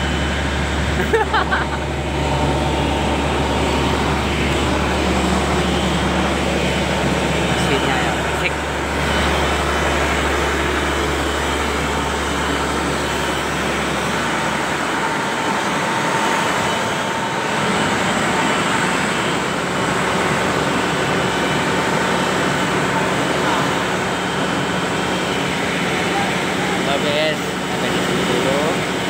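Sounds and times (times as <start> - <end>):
deep hum: 0.0 - 28.9
machinery engine drone: 0.0 - 29.0.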